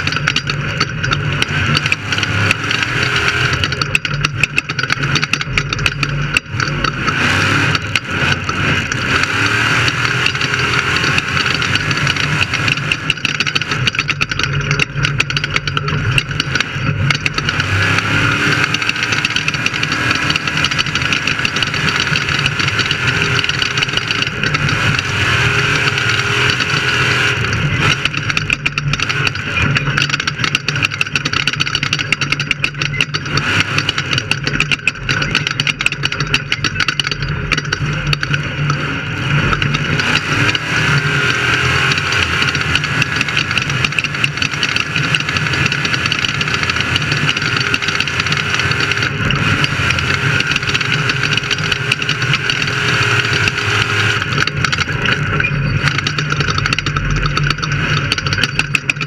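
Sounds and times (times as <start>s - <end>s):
loud engine drone: 0.0s - 59.0s.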